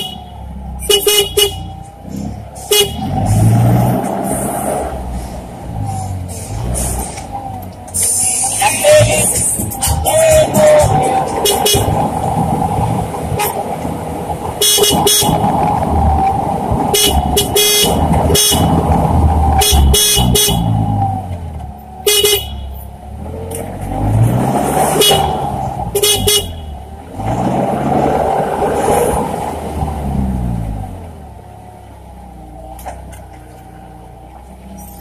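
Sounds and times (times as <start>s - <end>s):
forklift engine revving: 0.0s - 33.3s.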